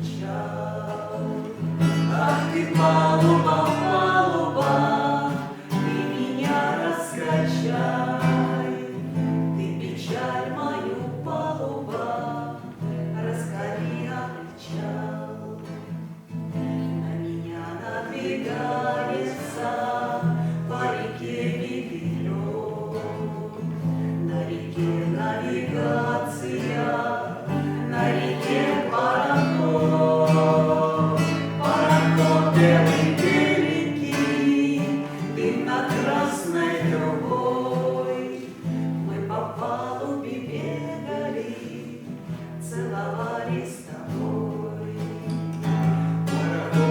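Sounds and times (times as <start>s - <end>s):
acoustic guitar: 0.0s - 46.9s
people singing together: 0.0s - 46.9s.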